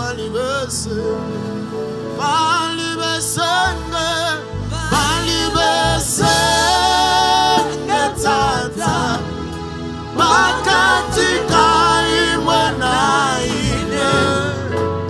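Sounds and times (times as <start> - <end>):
instrumental backing with bass: 0.0 - 15.0
man singing with vibrato: 0.0 - 15.0.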